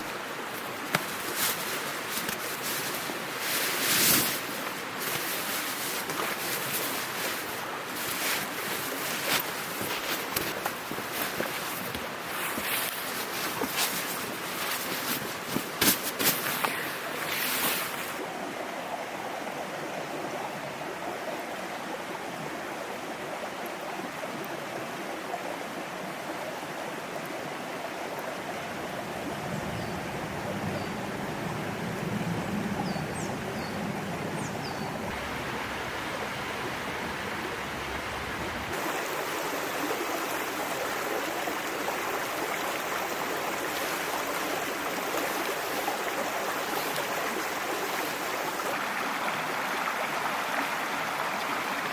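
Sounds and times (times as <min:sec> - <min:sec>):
stream babbling over rocks: 0:00.0 - 0:51.9.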